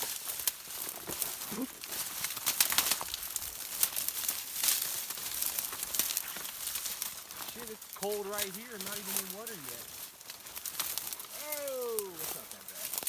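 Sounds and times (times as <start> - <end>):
dry reeds rustling and crackling: 0.0 - 13.0.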